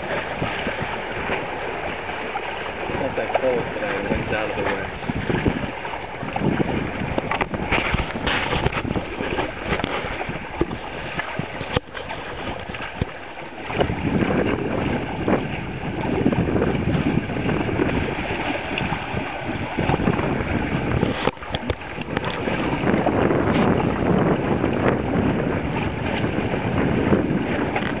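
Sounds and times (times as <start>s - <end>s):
water splashing along hull: 0.0s - 28.0s
wind buffeting microphone: 0.0s - 28.0s.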